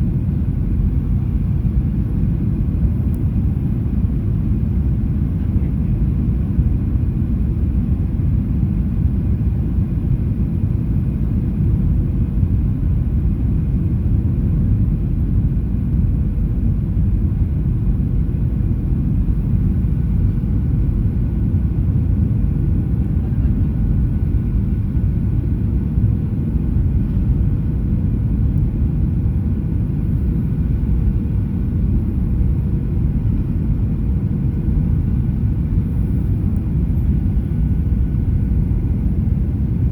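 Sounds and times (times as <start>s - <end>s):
deep rumble of engine and airflow: 0.0s - 39.9s.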